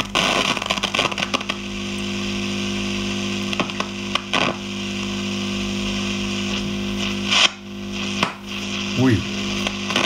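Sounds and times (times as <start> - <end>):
radio mains hum with hiss: 0.0 - 10.0
volume control crackles: 0.0 - 10.0.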